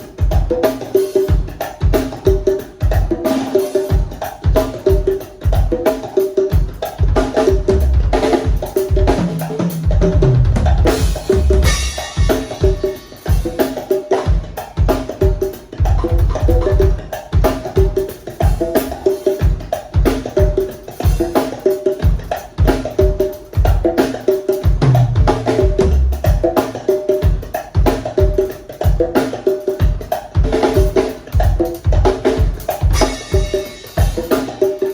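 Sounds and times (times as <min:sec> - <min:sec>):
drum kit and congas groove: 0:00.0 - 0:34.9.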